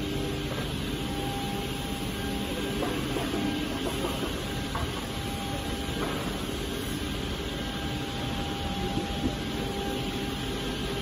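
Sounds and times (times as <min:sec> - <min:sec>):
faint steady whine: 0:00.0 - 0:11.0
machinery hum and rumble: 0:00.0 - 0:11.0.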